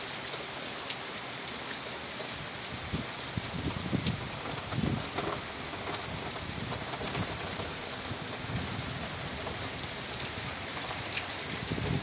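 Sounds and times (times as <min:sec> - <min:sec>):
heavy rain on street: 0:00.0 - 0:12.0.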